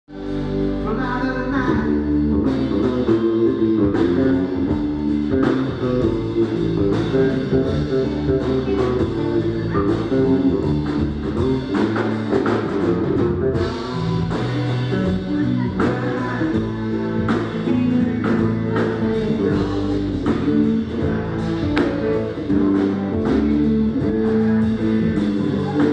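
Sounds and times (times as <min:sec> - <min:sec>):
live rock band playing: 0:00.1 - 0:25.9
drum hits: 0:03.9 - 0:25.9.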